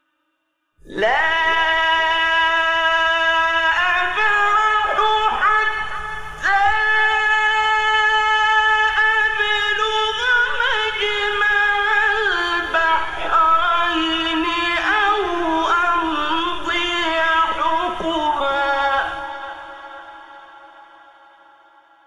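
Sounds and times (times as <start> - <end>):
man chanting melismatic recitation: 0.8 - 21.6.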